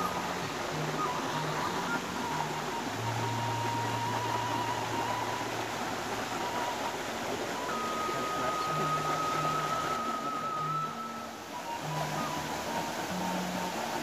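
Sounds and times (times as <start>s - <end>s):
soft background music: 0.0s - 14.0s
steady rushing hiss: 0.0s - 14.0s.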